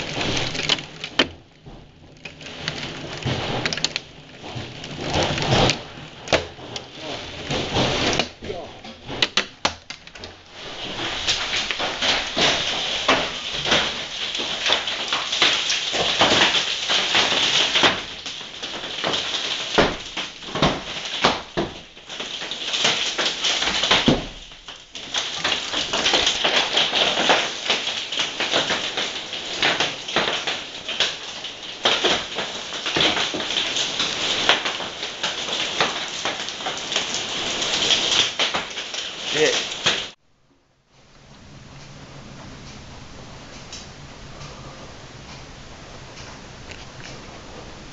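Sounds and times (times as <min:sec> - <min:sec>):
falling rain hiss: 0:00.0 - 0:09.5, 0:10.4 - 0:40.2, 0:40.9 - 0:47.9
hailstones rattling: 0:00.0 - 0:40.2, 0:43.3 - 0:47.9.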